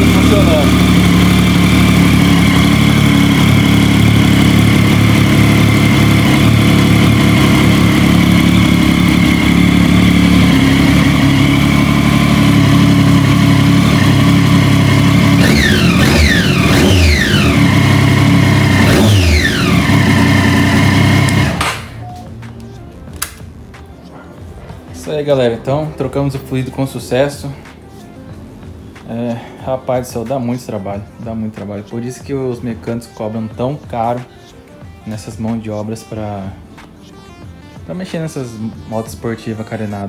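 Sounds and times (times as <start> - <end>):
motorcycle engine idling and revving: 0.0 - 34.3.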